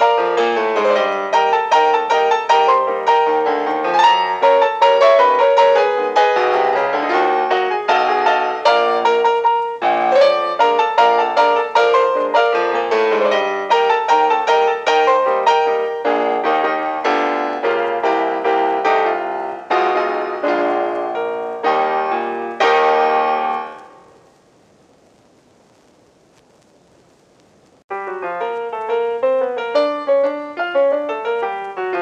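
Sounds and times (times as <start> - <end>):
solo piano music: 0.0 - 24.3, 27.9 - 32.0.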